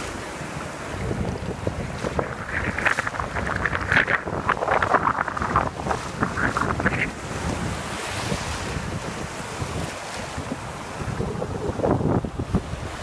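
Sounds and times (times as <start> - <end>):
surf washing over pebbles: 0.0 - 13.0
wind buffeting microphone: 0.0 - 13.0.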